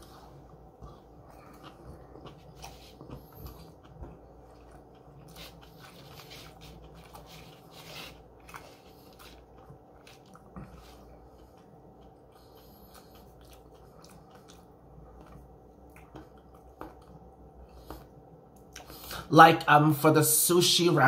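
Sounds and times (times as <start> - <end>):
person chewing up close: 0.0 - 19.2.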